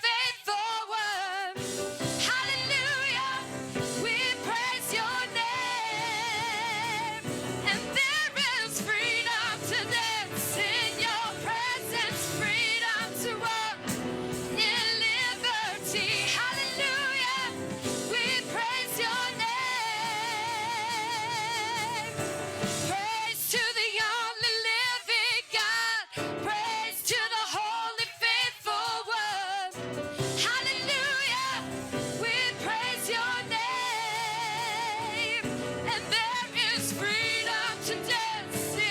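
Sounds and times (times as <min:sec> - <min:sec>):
voices singing with vibrato: 0:00.0 - 0:38.9
backing band: 0:01.6 - 0:23.5, 0:29.7 - 0:38.9.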